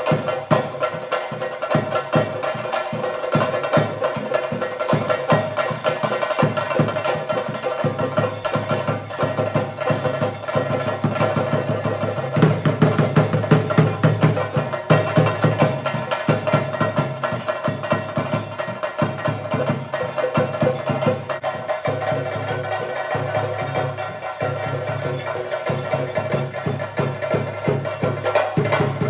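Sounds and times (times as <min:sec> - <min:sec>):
drums beaten in fast rolls: 0:00.0 - 0:29.0.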